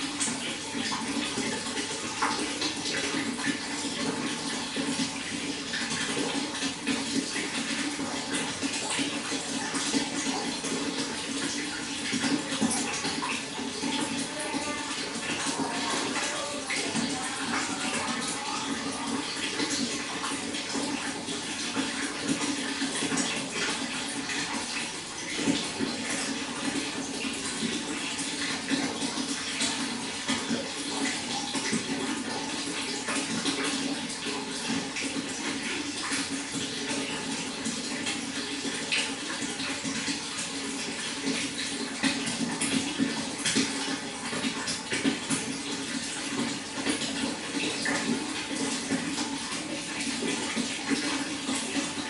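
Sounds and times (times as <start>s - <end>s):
water pouring and splashing: 0.0s - 52.0s.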